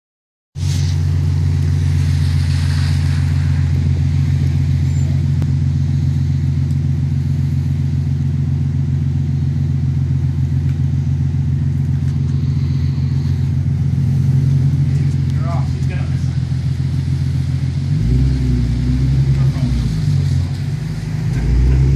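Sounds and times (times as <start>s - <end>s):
car engine idling: 0.6s - 21.9s.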